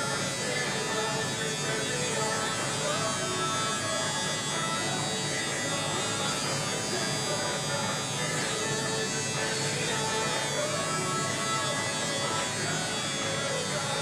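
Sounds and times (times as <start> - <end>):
electric hair clippers buzzing: 0.0 - 14.0.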